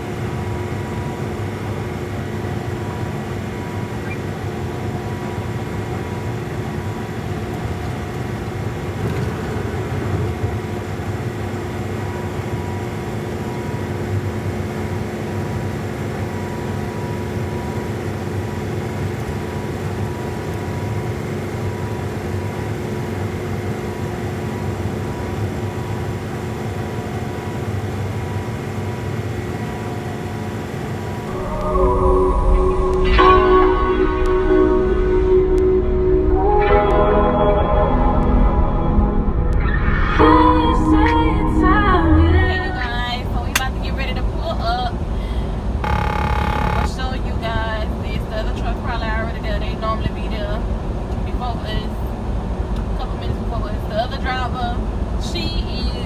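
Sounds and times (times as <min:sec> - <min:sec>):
truck engine and road rumble: 0:00.0 - 0:36.6, 0:40.9 - 0:56.0.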